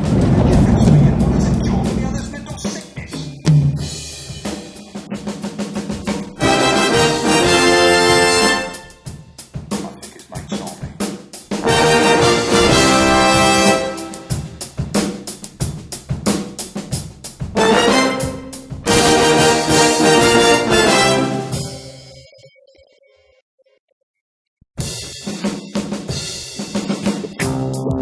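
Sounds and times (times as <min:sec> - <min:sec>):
music with drum kit: 0:00.0 - 0:22.2, 0:24.8 - 0:28.0.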